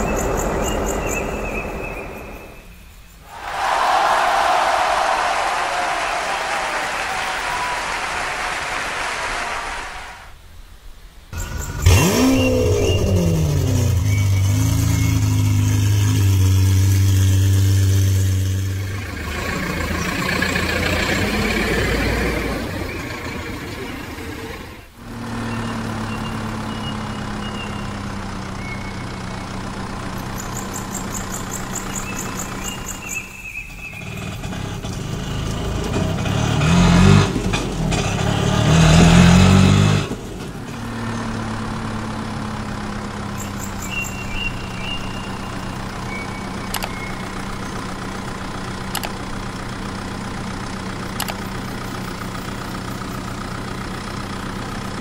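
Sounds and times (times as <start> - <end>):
vehicle engine revving: 0.0 - 6.6, 11.4 - 55.0.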